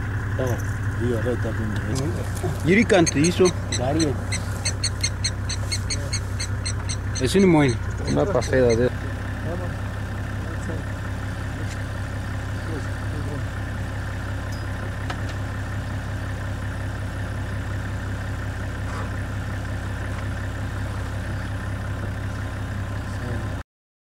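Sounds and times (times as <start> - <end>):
engine idling: 0.0 - 23.6.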